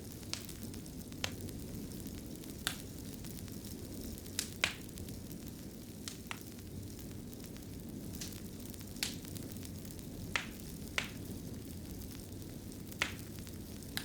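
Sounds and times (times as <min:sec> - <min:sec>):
wood fire burning and crackling: 0:00.0 - 0:14.0.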